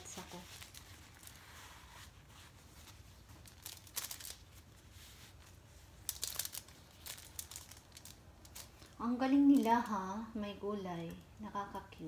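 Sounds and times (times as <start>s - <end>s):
gloved hands rustling: 0.0s - 9.9s.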